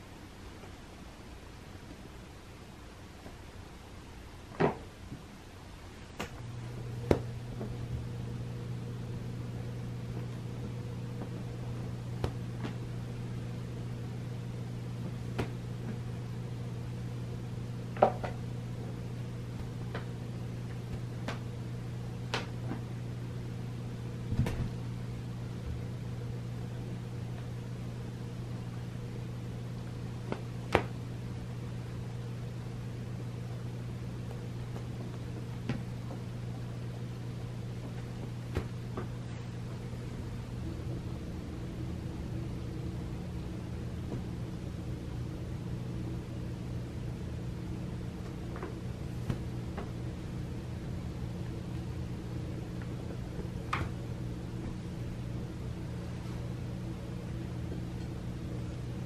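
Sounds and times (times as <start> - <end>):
electric machine hum: 0.0 - 59.0.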